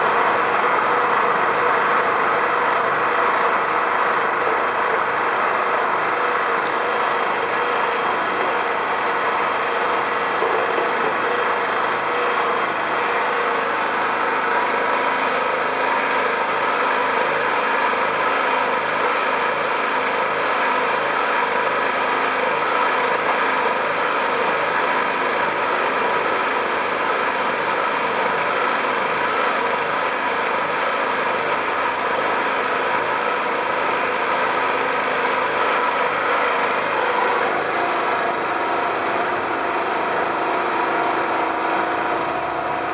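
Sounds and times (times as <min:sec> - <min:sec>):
generator engine running: 0:00.0 - 0:42.9.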